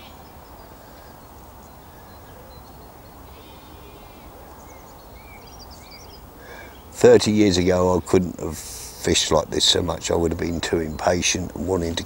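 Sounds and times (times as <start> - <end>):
steady hush of background noise: 0.0 - 12.0.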